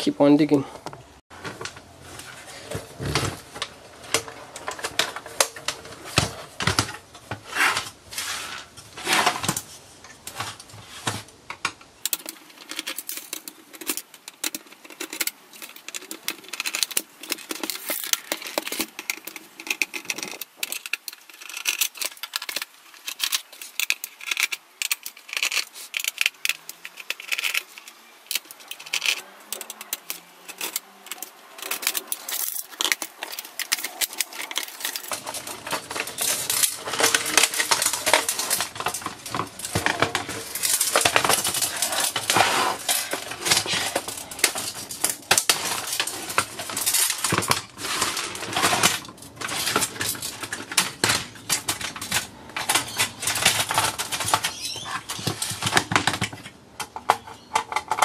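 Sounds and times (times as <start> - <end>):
plastic parts clicking and tapping: 10.3 - 58.0.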